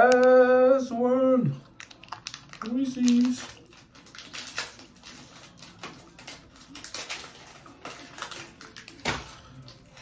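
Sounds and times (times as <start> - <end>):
candy wrapper crackling: 1.6 - 10.0.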